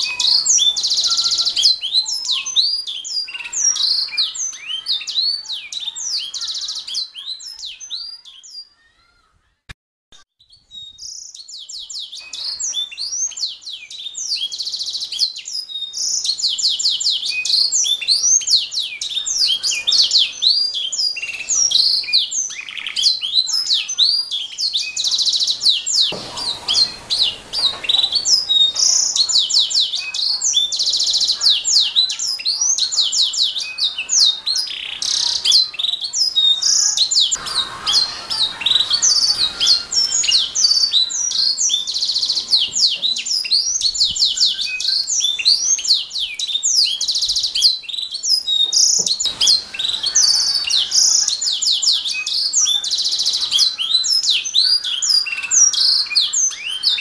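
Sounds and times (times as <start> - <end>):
canary singing trills: 0.0 - 9.4, 10.4 - 57.0.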